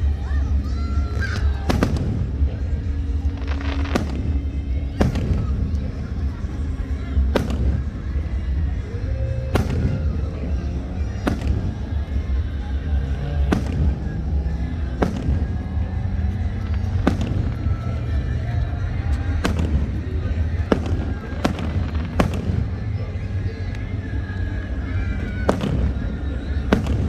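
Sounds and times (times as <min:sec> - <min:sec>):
fireworks bangs: 0:00.0 - 0:27.0
low rumble: 0:00.0 - 0:27.0.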